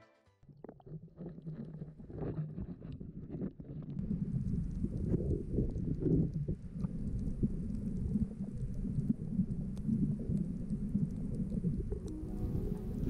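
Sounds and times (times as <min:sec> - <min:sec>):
muffled underwater rumble: 0:00.6 - 0:13.0.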